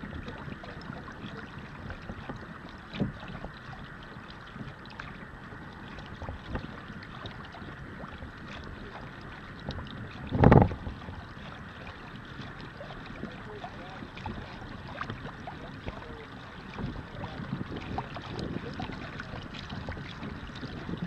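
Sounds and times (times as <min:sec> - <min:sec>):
water sloshing and lapping: 0:00.0 - 0:21.0
wind on microphone: 0:00.0 - 0:21.0.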